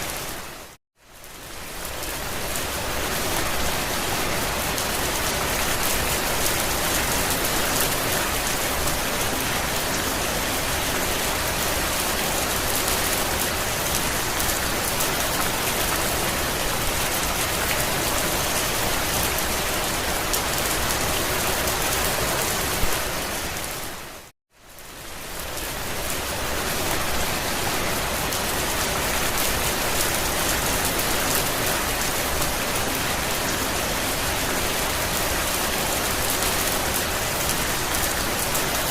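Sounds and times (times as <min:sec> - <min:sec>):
rain on a vehicle roof: 0:00.1 - 0:38.9.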